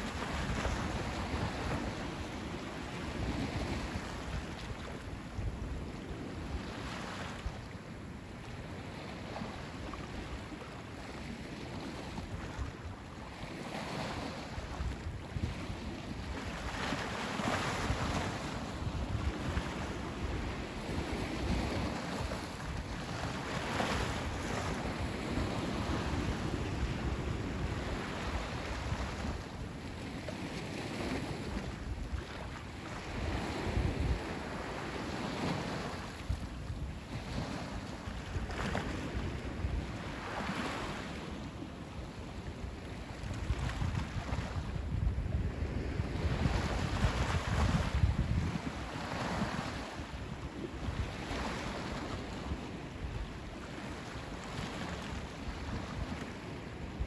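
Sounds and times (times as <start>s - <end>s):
sea waves breaking on beach: 0.0s - 57.0s
wind rumble on microphone: 0.0s - 57.0s.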